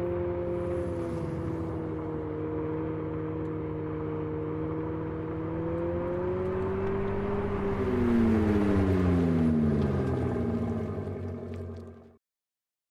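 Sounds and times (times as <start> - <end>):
electric car driving hum: 0.0 - 12.2.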